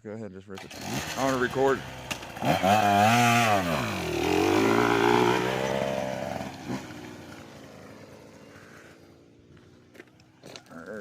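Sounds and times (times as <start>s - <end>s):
dirt bike engine revving: 0.6s - 9.9s.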